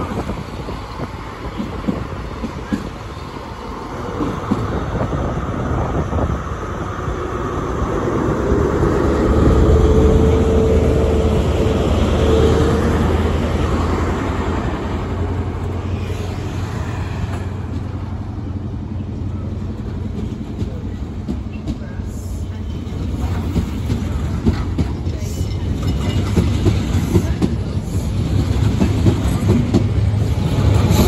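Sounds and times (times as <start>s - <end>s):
diesel locomotive engine: 0.0s - 31.0s
train wheels on rails: 0.0s - 31.0s.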